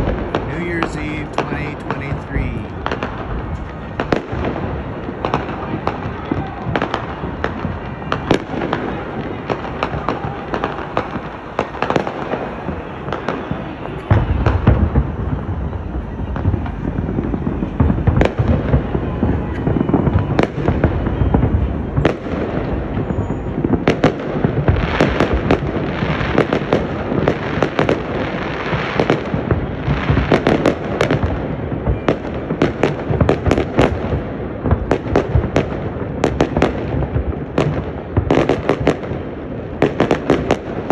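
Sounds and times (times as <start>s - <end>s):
fireworks bangs and crackles: 0.0s - 40.9s
fireworks low booms: 0.0s - 40.9s.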